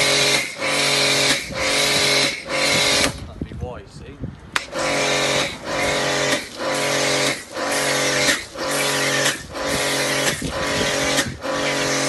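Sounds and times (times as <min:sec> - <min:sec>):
pressure washer motor hum: 0:00.0 - 0:03.4, 0:04.5 - 0:12.0.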